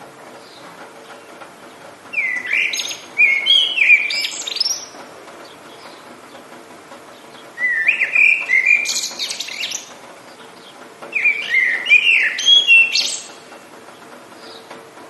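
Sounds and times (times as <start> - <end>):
rain hiss: 0.0 - 15.0
songbird singing: 0.2 - 14.8.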